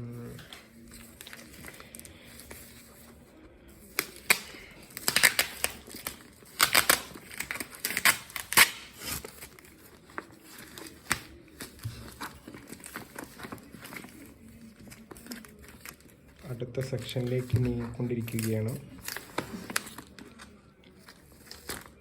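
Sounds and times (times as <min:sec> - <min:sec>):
packaging rustling: 0:00.3 - 0:22.0
packaging ripping and crinkling: 0:00.4 - 0:03.1, 0:03.8 - 0:22.0.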